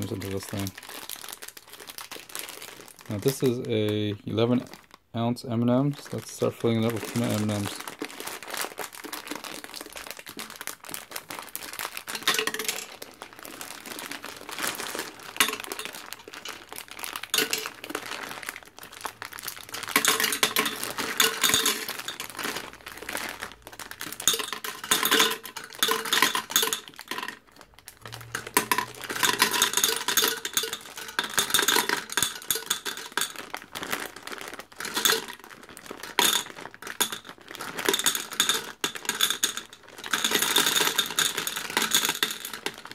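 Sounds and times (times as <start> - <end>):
candies clattering on glass: 0.0 - 4.8, 6.0 - 42.9
plastic bag crinkling: 0.0 - 42.9.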